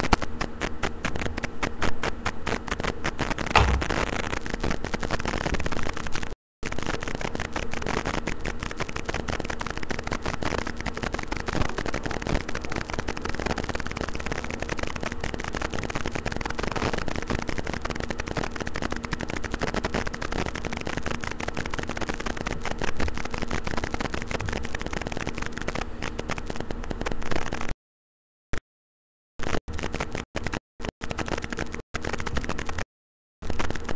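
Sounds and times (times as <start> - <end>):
crackling static: 0.0 - 27.8, 29.4 - 33.9.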